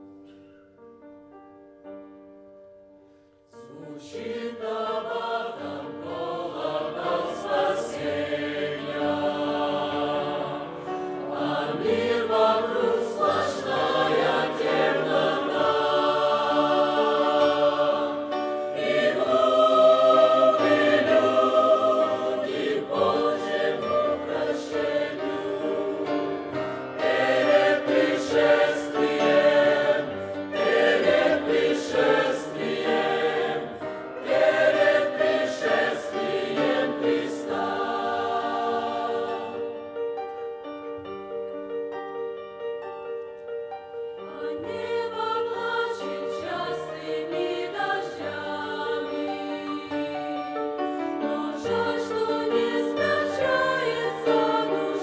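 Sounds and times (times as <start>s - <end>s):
choir singing a hymn: 3.5s - 40.6s, 43.8s - 55.0s.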